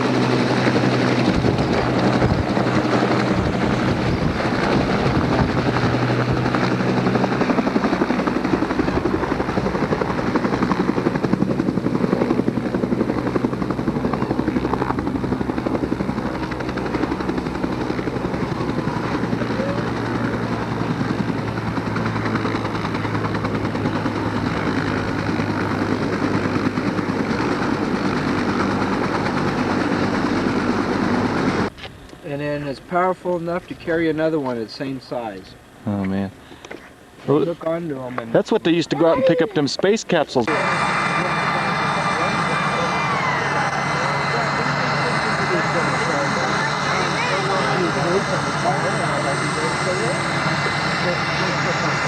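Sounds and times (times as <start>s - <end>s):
helicopter rotor and turbine drone: 0.0s - 52.0s.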